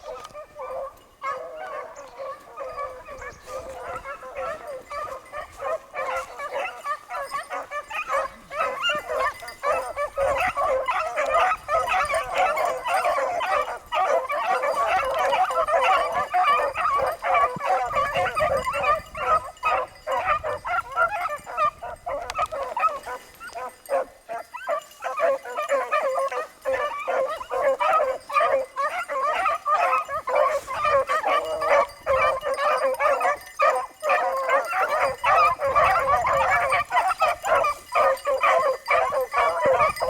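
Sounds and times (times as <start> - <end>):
dogs baying: 0.0 - 40.0.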